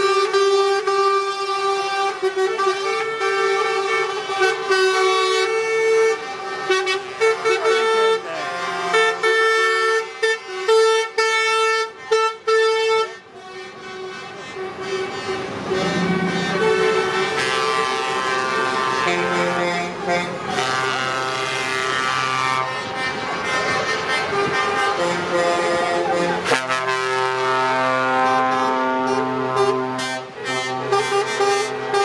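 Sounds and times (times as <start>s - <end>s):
truck horns sounding: 0.0s - 32.0s.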